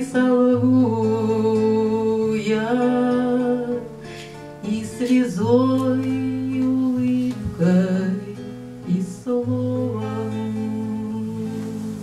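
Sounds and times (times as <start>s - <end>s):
acoustic guitar: 0.0s - 12.0s
woman singing: 0.0s - 12.0s.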